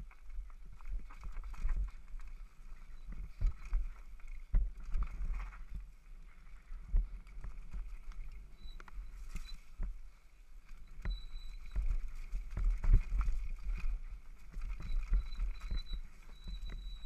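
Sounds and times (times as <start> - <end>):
bike rattling over dirt trail: 0.0 - 17.0
wind rumble on microphone: 0.0 - 17.0.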